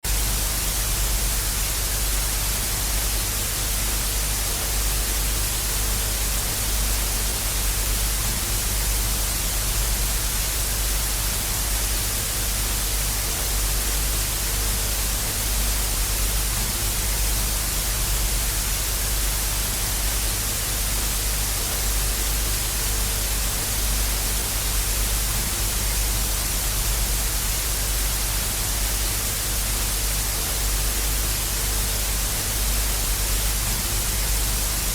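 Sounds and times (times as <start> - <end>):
television static hiss: 0.0 - 34.9.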